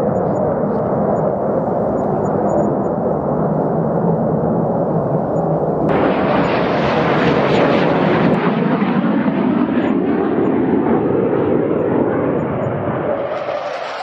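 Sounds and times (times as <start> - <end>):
fighter jet engine noise: 0.0 - 14.0.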